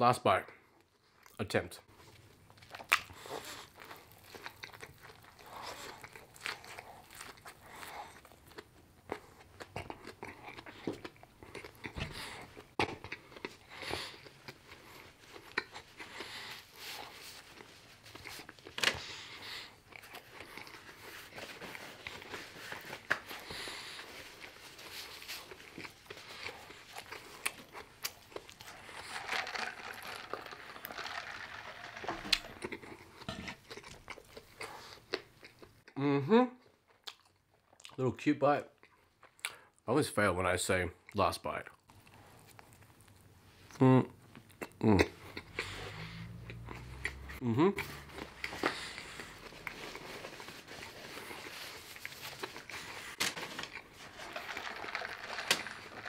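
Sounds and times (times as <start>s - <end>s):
chewing and crunching: 1.0s - 36.0s, 36.6s - 38.0s, 41.7s - 56.0s.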